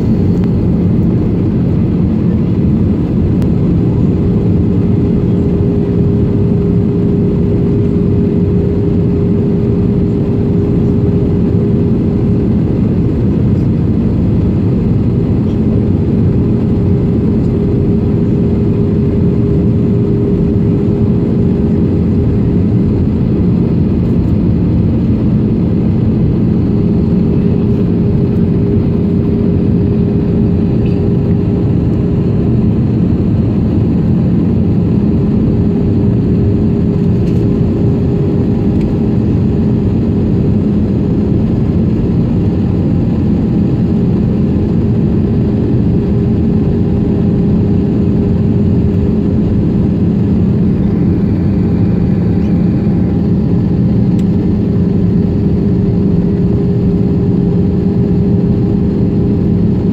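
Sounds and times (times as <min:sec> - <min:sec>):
airliner cabin rumble: 0:00.0 - 0:59.9
constant hum: 0:00.0 - 0:59.9.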